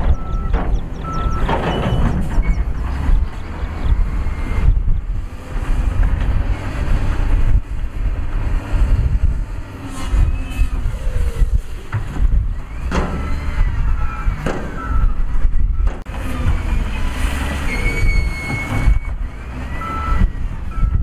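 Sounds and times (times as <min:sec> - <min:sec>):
diesel machinery rumbling: 0:00.0 - 0:21.0.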